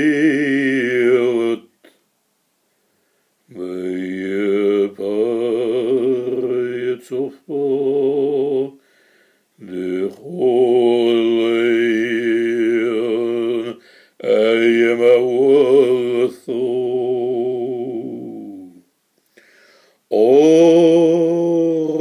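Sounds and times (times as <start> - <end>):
man chanting a prayer: 0.0 - 1.7, 3.5 - 8.8, 9.6 - 18.8, 20.1 - 22.0.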